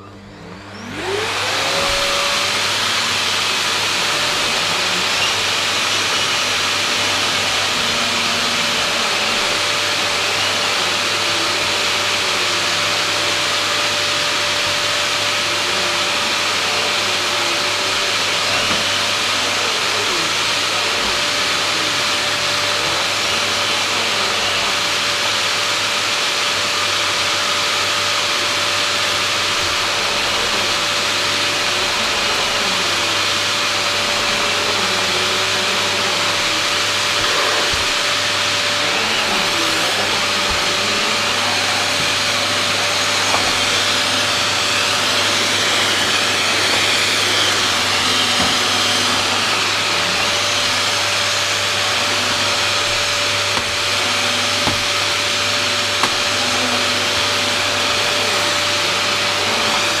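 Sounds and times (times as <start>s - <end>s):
vacuum cleaner running: 0.0s - 60.0s.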